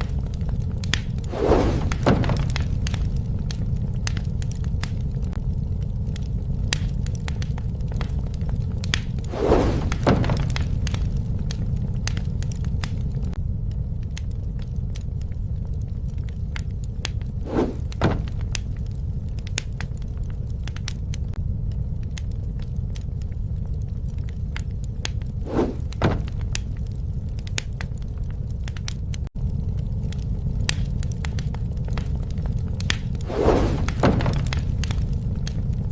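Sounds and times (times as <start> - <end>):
low rumble of flames: 0.0 - 35.9
wood crackling and popping: 0.0 - 35.9.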